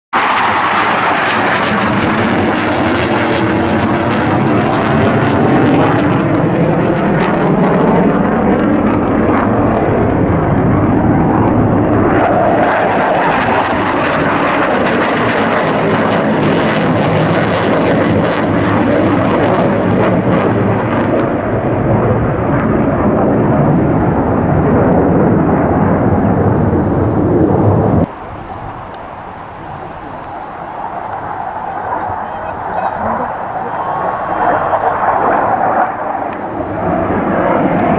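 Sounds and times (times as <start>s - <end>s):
aircraft engine flying past: 0.2s - 37.9s.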